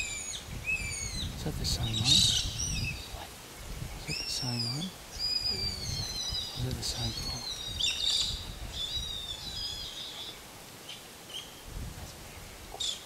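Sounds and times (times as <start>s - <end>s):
wind rumble on microphone: 0.0s - 10.4s, 11.6s - 13.0s.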